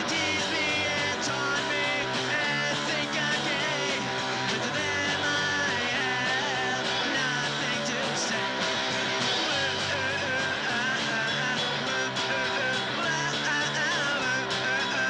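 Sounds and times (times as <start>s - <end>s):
punk rock band playing: 0.0s - 15.0s.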